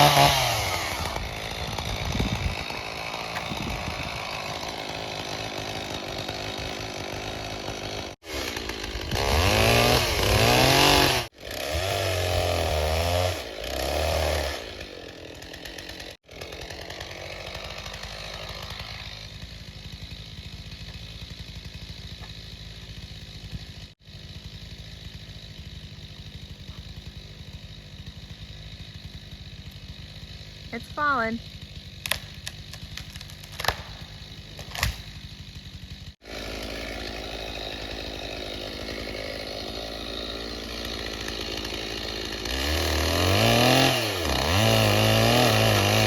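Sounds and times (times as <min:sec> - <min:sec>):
small gasoline engine revving: 0:00.0 - 0:46.0.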